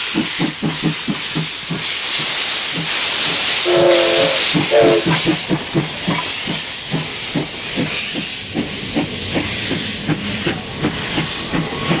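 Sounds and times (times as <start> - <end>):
loud hiss of steam: 0.0 - 12.0
steam locomotive chuffing: 0.0 - 12.0.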